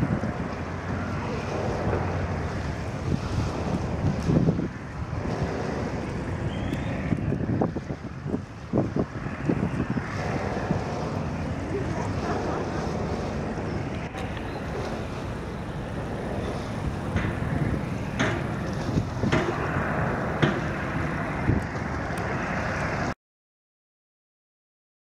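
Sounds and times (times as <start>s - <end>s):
wind buffeting microphone: 0.0s - 23.1s
rushing water: 0.0s - 23.2s.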